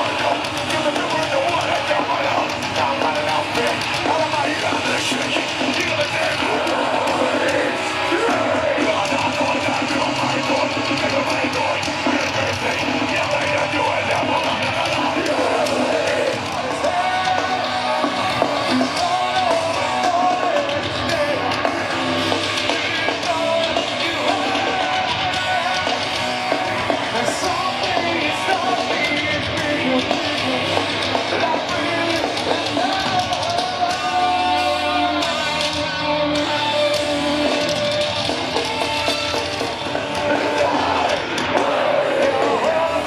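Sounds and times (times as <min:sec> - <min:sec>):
person singing: 0:00.0 - 0:43.0
rock band playing: 0:00.0 - 0:43.0.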